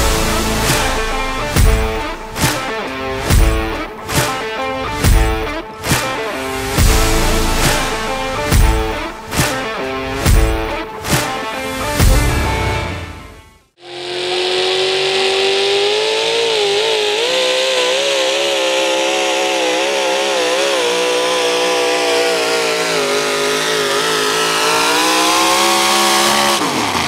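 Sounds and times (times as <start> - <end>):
high-revving truck engine screaming: 0.0 - 27.0.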